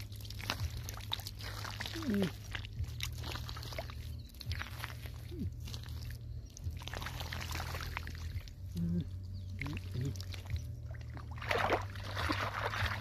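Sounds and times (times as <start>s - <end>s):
low hum: 0.0s - 13.0s
water splashes: 0.0s - 13.0s
wet mud squelching: 0.0s - 13.0s.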